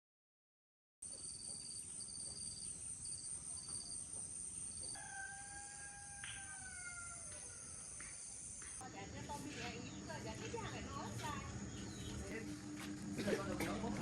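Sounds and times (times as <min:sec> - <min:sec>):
insects chirping and trilling: 0:01.0 - 0:13.9.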